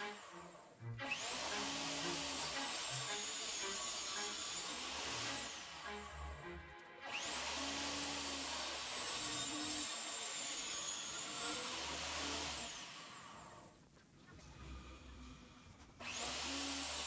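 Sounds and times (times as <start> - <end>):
table saw cutting wood: 0.0 - 13.7, 16.0 - 17.0.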